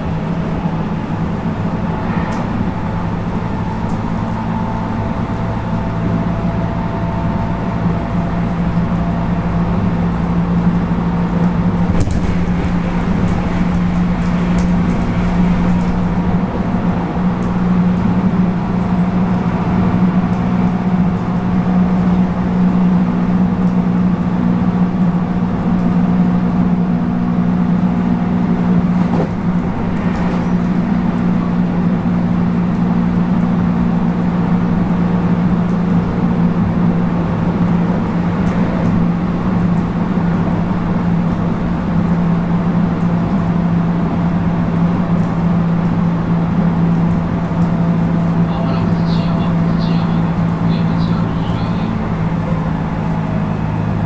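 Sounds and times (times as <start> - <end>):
train motors humming: 0.0 - 23.1, 27.6 - 43.5, 45.3 - 54.0
wheels rumbling on rail: 0.0 - 54.0.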